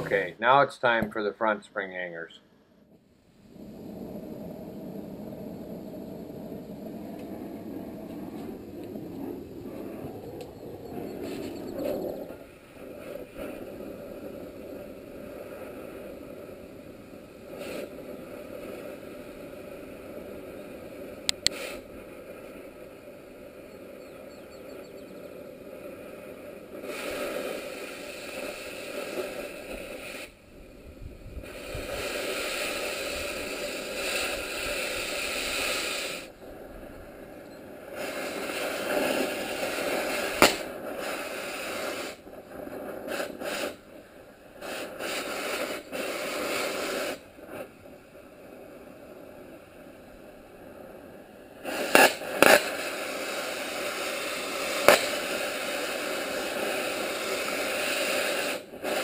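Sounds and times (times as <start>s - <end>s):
cutting torch hissing: 0.0s - 0.6s, 3.4s - 59.0s
torch sharp pops: 2.9s - 23.6s, 25.6s - 30.4s, 31.3s - 48.8s, 50.7s - 59.0s.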